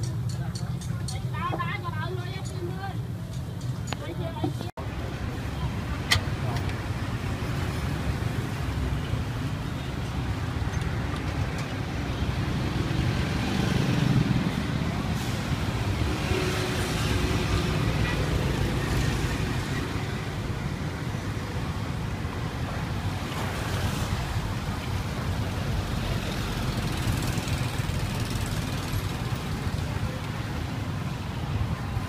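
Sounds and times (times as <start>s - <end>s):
low rumble of passing traffic: 0.0s - 32.0s.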